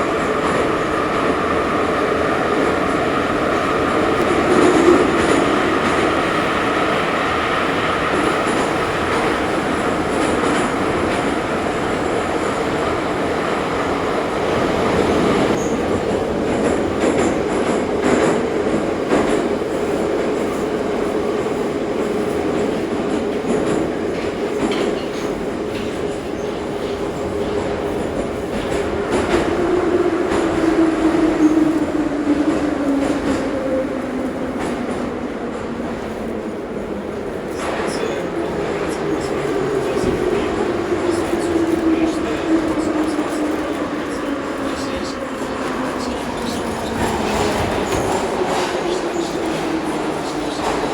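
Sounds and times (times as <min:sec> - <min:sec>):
falling whine of slowing train: 0:00.0 - 0:50.9
rail clicks: 0:00.0 - 0:50.9
wheel and rail noise: 0:00.0 - 0:50.9.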